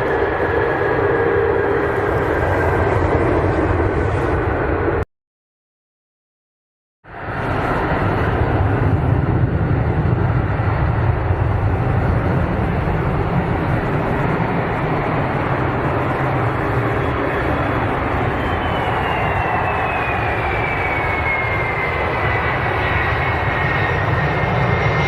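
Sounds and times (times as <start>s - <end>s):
jet engines roaring: 0.0s - 5.0s, 7.1s - 25.0s.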